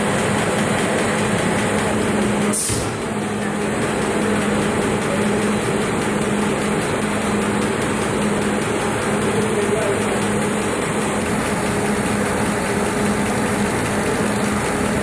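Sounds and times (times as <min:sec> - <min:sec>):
printing press machine drone: 0:00.0 - 0:15.0.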